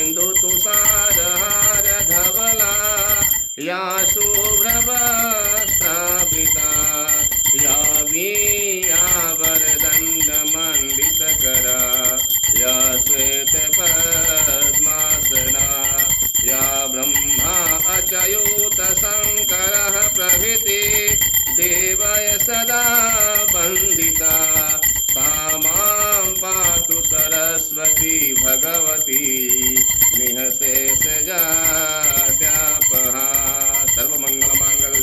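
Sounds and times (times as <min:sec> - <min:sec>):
hand bell ringing: 0:00.0 - 0:35.0.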